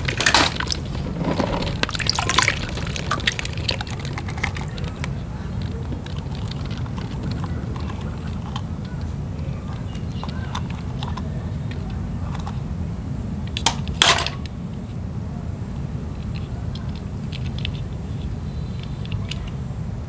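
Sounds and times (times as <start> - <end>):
toy vehicles clicking and knocking: 0.0 - 12.7, 13.4 - 15.0, 16.0 - 19.8
toys clattering: 0.0 - 12.7, 13.4 - 14.9, 16.2 - 19.6
steady low rumble: 0.0 - 20.0.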